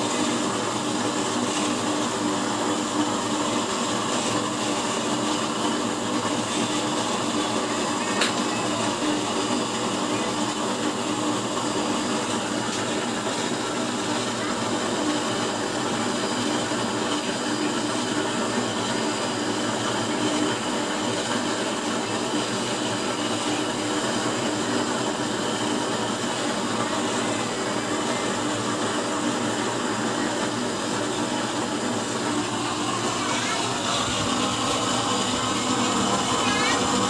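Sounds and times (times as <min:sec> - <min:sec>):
stove forced air and flame: 0:00.0 - 0:37.0.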